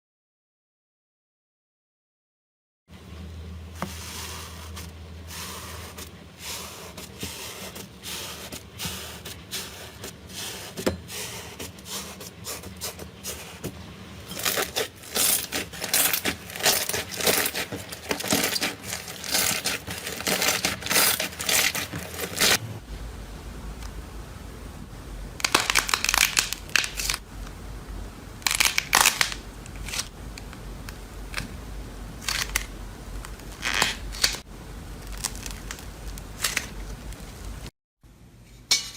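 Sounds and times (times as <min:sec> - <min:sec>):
low background hum: 0:02.9 - 0:38.9.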